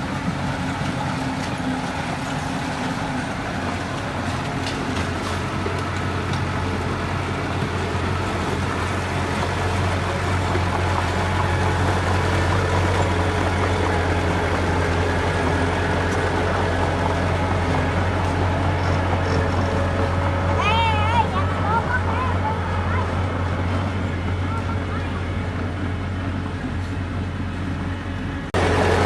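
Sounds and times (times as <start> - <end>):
heavy diesel engine droning: 0.0 - 29.0.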